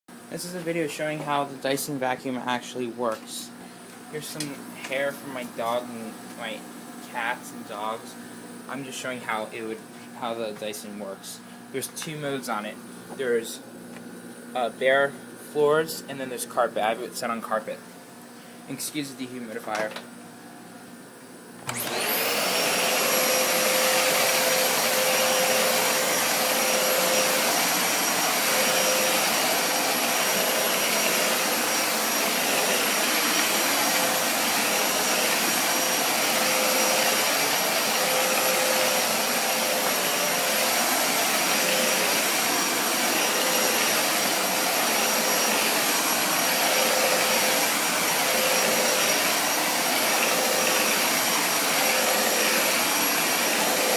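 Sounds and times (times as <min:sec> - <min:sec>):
vacuum cleaner running: 0:00.2 - 0:20.2, 0:20.8 - 0:53.9.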